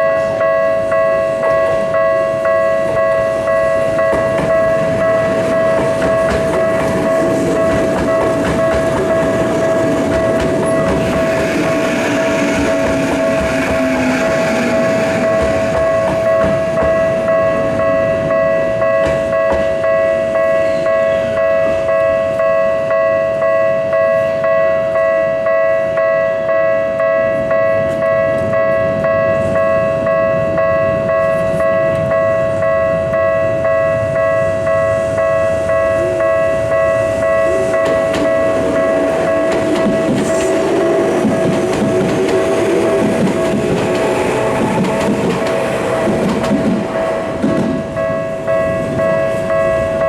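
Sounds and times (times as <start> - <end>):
level-crossing warning bell ringing: 0.0 - 50.0.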